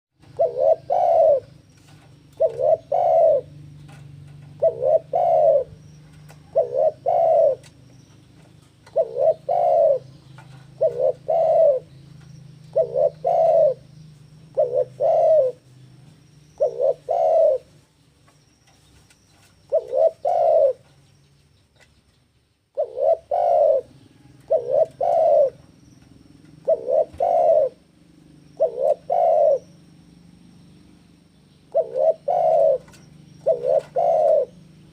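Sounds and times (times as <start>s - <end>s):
dove cooing: 0.2s - 17.8s, 19.4s - 20.9s, 22.8s - 30.0s, 31.7s - 34.9s.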